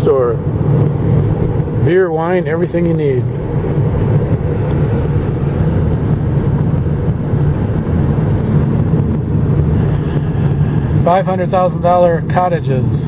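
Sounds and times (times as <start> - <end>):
car road noise from inside: 0.0 - 13.0.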